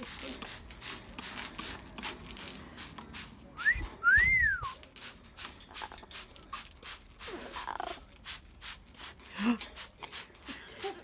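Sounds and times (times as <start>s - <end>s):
spray bottle hissing: 0.0s - 11.0s.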